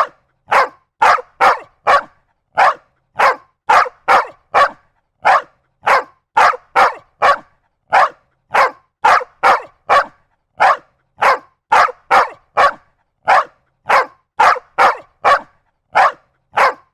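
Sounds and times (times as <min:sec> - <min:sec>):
dog barking: 0:00.0 - 0:16.9.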